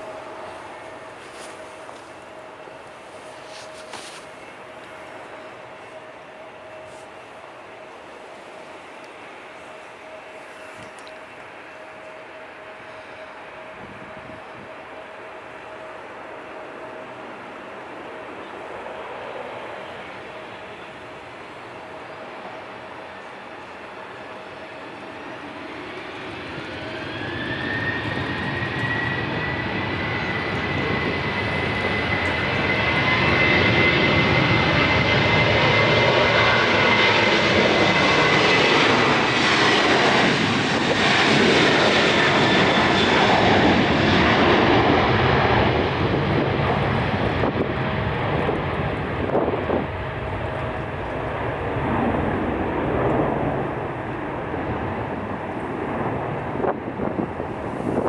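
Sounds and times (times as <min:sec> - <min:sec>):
airliner engines passing: 0:00.0 - 0:58.0.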